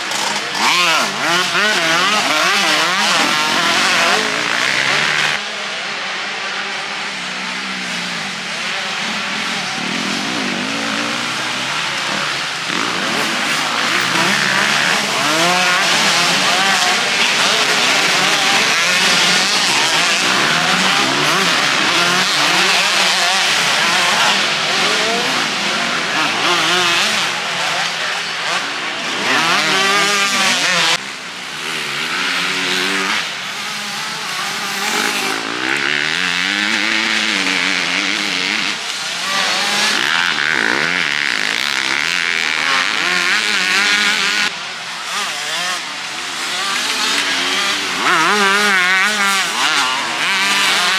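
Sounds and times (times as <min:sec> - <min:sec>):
motocross bikes revving: 0:00.0 - 0:50.9.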